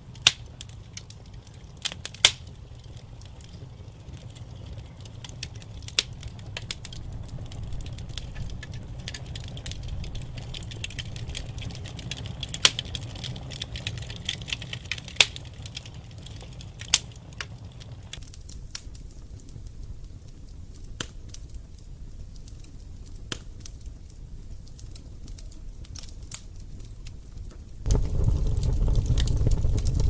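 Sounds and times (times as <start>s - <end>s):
fire crackling in a fireplace: 0.0s - 30.0s
sharp fire snaps: 0.0s - 30.0s.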